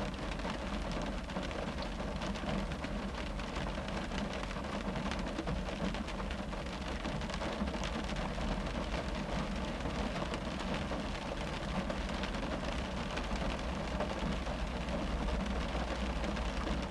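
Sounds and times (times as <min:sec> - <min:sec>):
rain drumming on car roof: 0:00.0 - 0:16.9.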